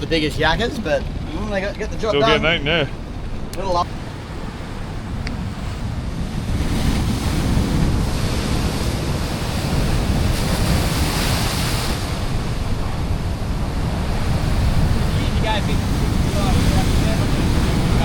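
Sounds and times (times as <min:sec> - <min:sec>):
ocean swell washing against rock: 0:00.0 - 0:18.0
wind buffeting microphone: 0:00.0 - 0:18.0.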